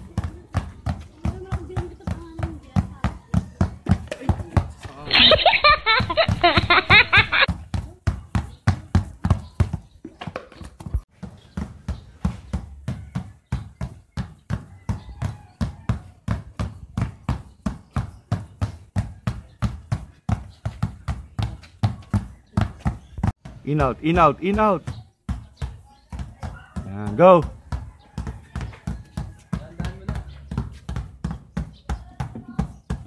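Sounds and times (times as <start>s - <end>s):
basketballs bouncing on concrete: 0.0s - 33.0s.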